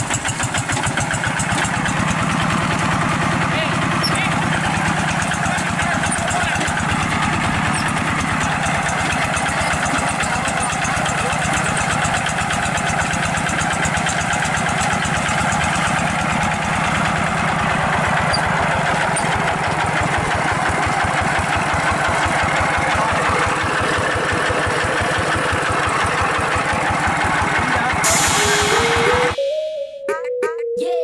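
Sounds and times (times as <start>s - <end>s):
diesel engine running: 0.0s - 29.4s.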